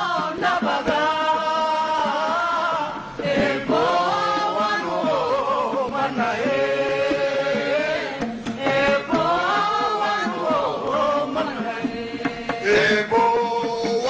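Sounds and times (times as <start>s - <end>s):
chanted vocal music: 0.0s - 14.0s.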